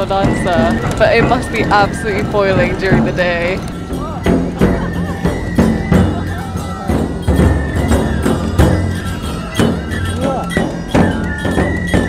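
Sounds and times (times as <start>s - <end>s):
high flute melody: 0.0s - 12.0s
jingling bells: 0.0s - 12.0s
taiko drums beating: 0.0s - 12.0s.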